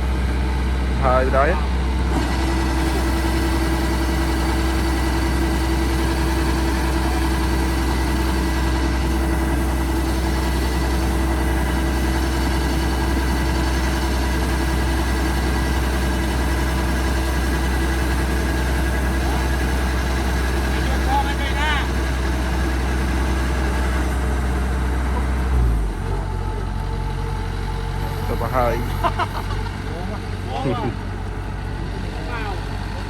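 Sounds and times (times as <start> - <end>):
large engine running: 0.0 - 33.0.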